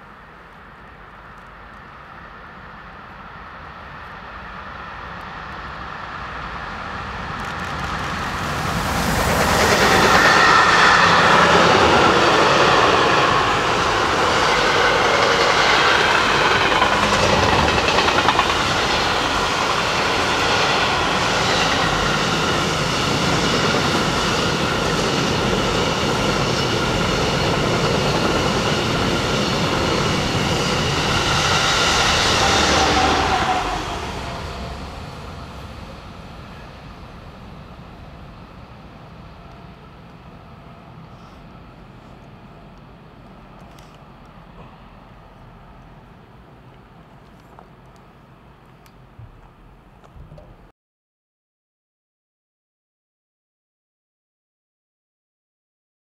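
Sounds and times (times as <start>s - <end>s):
train passing on rails: 0.0s - 50.7s.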